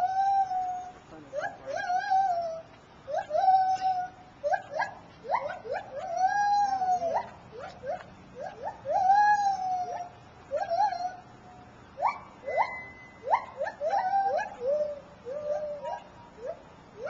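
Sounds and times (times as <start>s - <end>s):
gibbon whooping calls: 0.0s - 11.3s, 12.0s - 17.0s.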